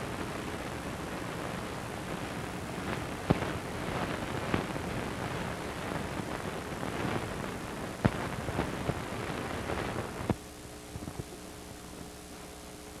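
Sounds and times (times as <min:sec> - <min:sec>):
film hiss and crackle: 0:00.0 - 0:13.0
steady hum: 0:00.0 - 0:13.0.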